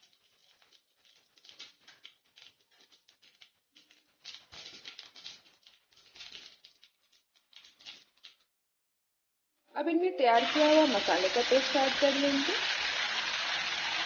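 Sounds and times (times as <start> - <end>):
spices crackling in hot oil: 0.0 - 8.5, 10.3 - 14.0.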